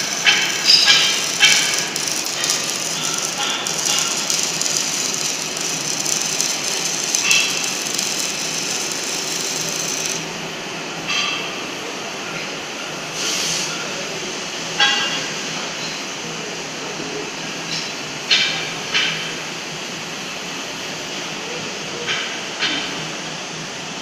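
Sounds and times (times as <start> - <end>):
workshop machinery noise: 0.0 - 24.0.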